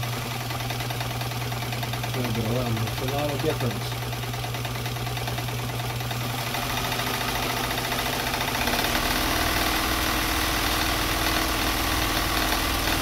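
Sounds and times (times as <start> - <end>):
sewing machine running: 0.0 - 13.0.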